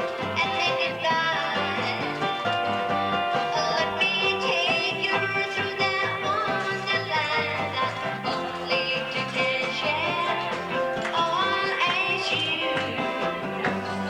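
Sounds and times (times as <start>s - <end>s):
upbeat song with singing and guitar: 0.0s - 14.0s.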